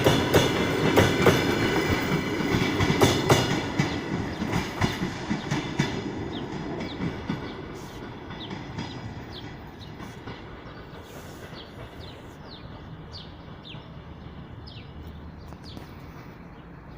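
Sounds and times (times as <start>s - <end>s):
birds chirping: 0.0s - 16.9s
train cars rumbling on track: 0.0s - 16.9s.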